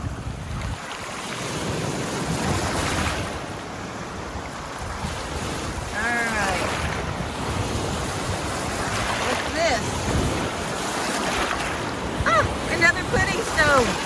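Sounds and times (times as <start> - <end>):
waves washing onto shore: 0.0 - 14.0
wind rumbling on microphone: 0.0 - 14.0.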